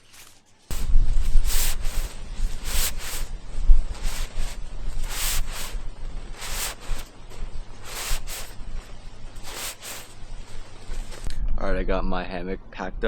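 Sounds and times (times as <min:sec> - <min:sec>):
gear rustling: 0:00.0 - 0:11.3.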